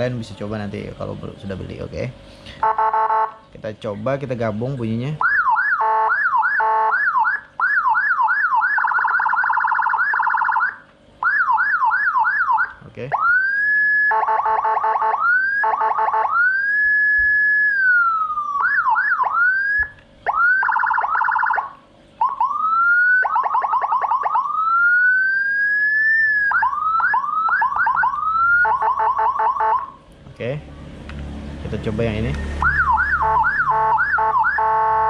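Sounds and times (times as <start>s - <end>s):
electronic siren wailing and yelping: 2.6s - 3.4s, 5.2s - 30.1s, 32.0s - 35.0s.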